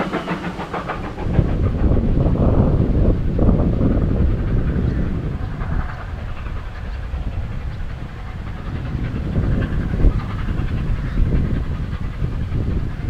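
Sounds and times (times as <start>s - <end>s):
distant train running: 0.0s - 13.0s
wind buffeting microphone: 0.0s - 13.0s.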